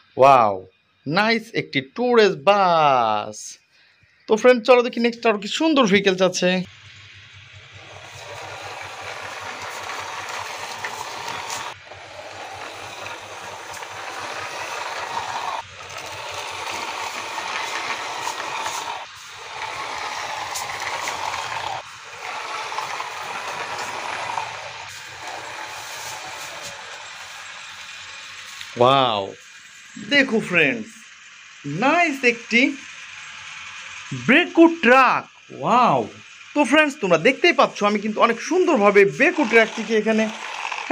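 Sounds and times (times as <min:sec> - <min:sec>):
toy truck wheels on concrete: 0:06.9 - 0:40.9.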